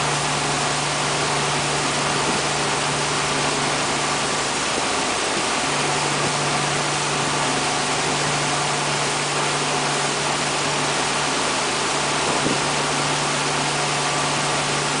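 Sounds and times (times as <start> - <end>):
boat engine humming: 0.0 - 15.0
churning wake water: 0.0 - 15.0.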